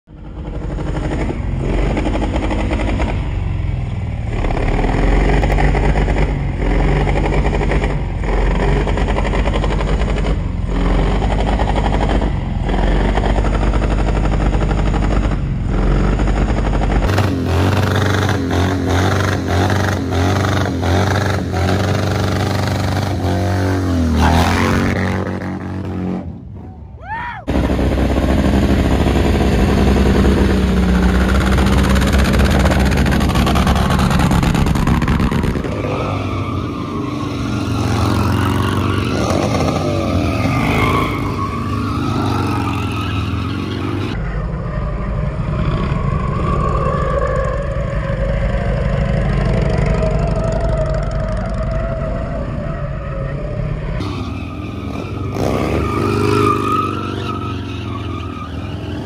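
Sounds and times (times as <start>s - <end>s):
motorcycle engines revving: 0.1s - 59.0s.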